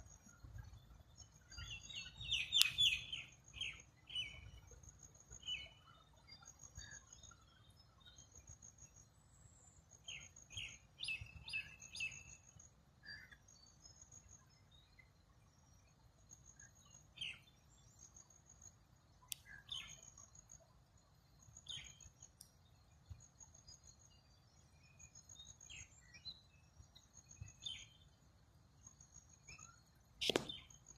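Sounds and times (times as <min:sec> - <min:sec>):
faint bird chirps: 0:00.0 - 0:30.9.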